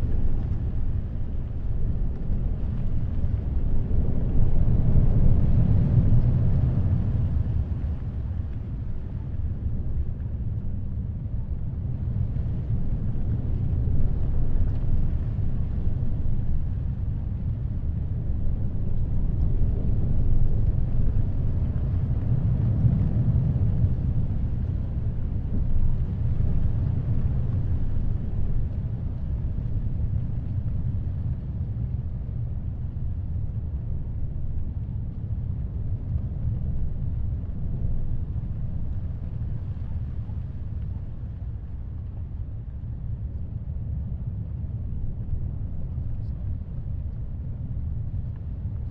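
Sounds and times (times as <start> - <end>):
wind gusts: 0.0 - 48.9.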